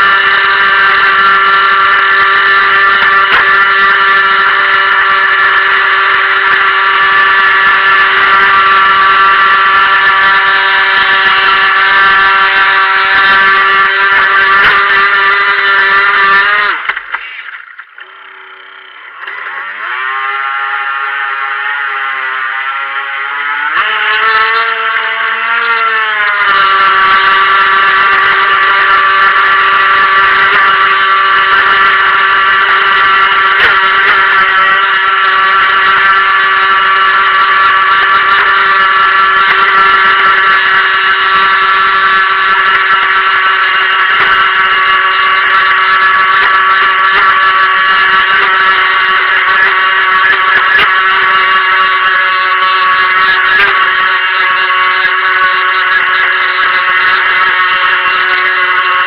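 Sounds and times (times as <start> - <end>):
electric motor high whine: 0.0 - 59.0.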